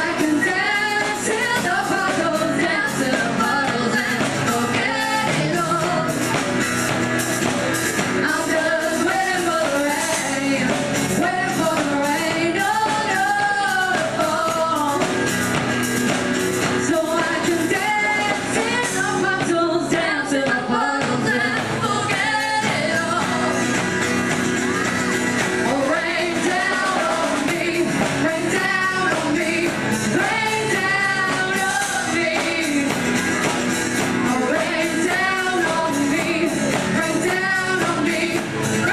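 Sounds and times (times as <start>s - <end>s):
women singing: 0.0s - 6.5s, 8.0s - 15.3s, 16.7s - 38.9s
live band music: 0.0s - 38.9s.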